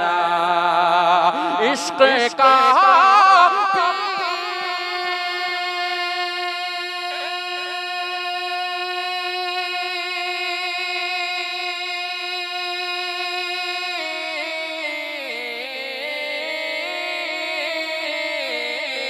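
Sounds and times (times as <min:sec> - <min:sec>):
man singing long note: 0:00.0 - 0:19.0.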